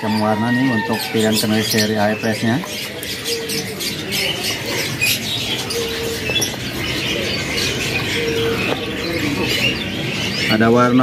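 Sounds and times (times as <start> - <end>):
canaries chirping and twittering: 0.0 - 11.0
market background murmur: 0.0 - 11.0.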